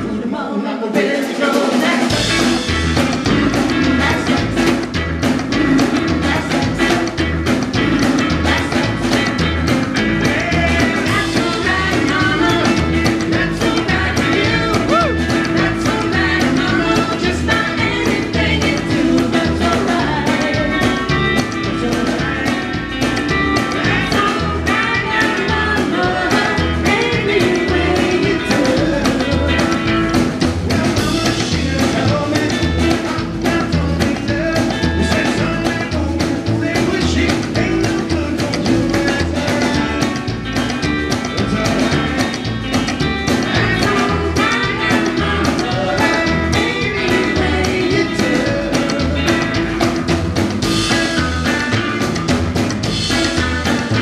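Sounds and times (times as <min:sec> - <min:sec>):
rockabilly band playing: 0:00.0 - 0:54.0.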